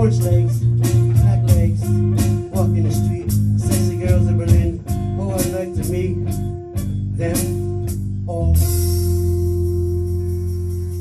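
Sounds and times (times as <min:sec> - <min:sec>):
music with a steady beat: 0:00.0 - 0:11.0.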